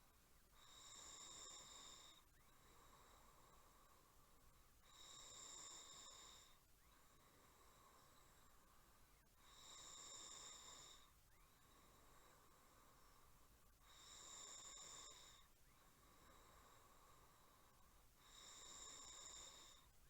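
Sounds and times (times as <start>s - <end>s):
faint snoring: 0.0s - 20.0s
quiet breathing: 0.0s - 20.0s.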